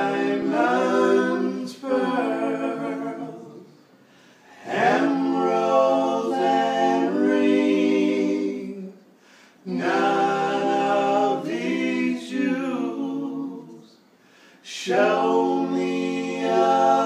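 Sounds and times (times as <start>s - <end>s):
men singing a cappella in harmony: 0.0s - 17.0s.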